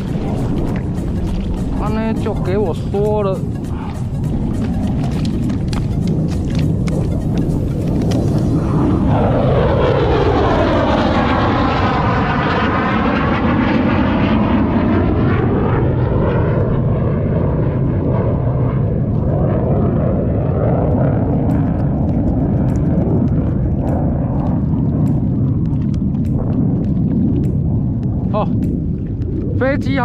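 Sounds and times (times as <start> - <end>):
low-flying aircraft engine: 0.0 - 30.0.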